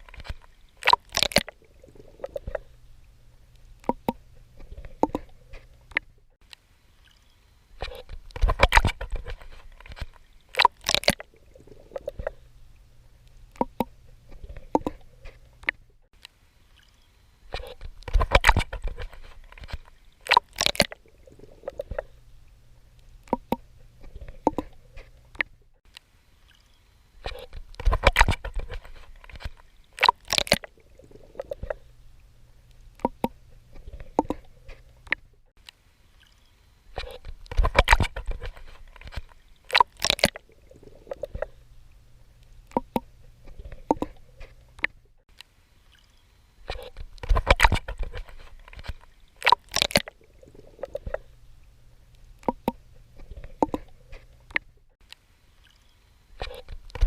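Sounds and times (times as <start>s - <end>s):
low steady hum: 0.0s - 57.0s
water sloshing: 0.0s - 57.0s.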